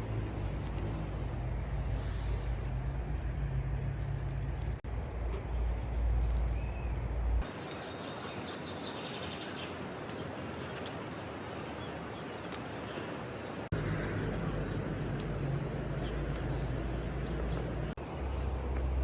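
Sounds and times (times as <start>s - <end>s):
small birds chirping: 0.0s - 18.0s
outdoor background hiss: 0.0s - 19.0s.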